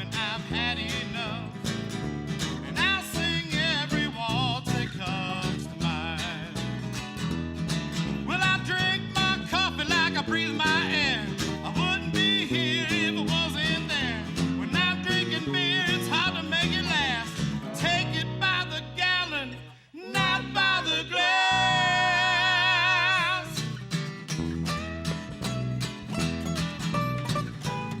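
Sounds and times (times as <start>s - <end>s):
country band playing: 0.0s - 28.0s.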